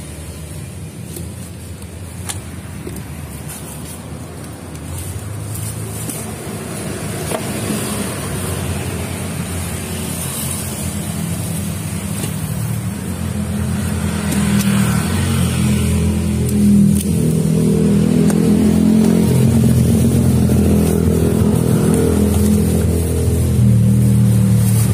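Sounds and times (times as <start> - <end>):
vehicle engine humming: 0.0 - 24.9.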